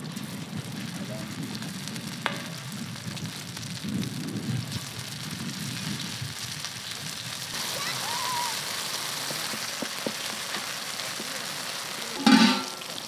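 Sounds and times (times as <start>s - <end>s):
patties sizzling in hot oil: 0.0s - 13.0s.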